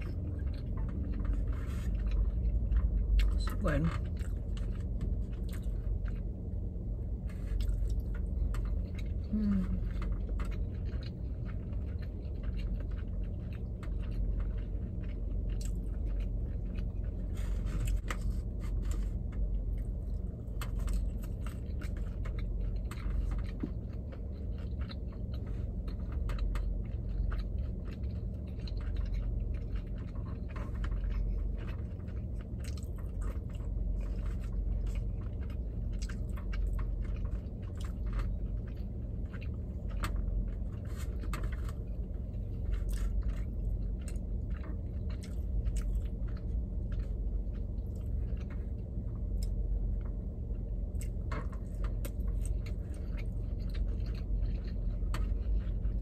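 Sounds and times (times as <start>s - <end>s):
person chewing food: 0.0s - 56.0s
steady low hum: 0.0s - 56.0s.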